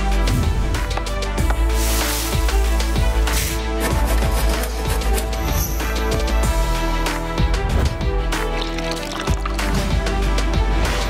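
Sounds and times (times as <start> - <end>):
music with strong bass and beat: 0.0 - 11.0.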